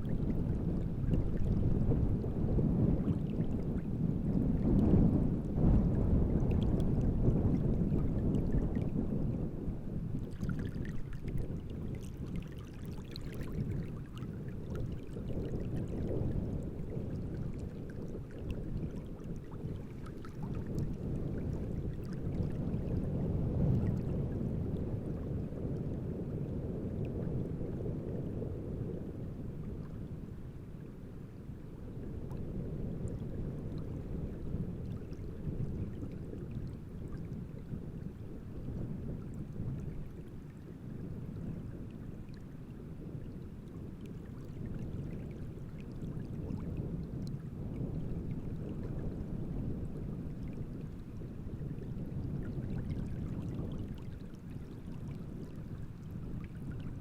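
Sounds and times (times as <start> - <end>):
waves lapping and sloshing: 0.0 - 57.0
wind rumble: 0.0 - 57.0.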